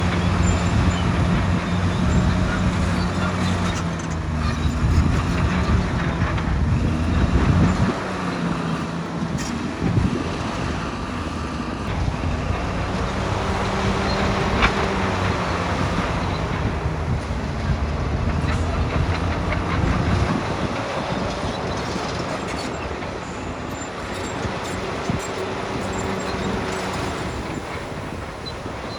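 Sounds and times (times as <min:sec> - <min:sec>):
heavy machine engine humming: 0:00.0 - 0:28.9.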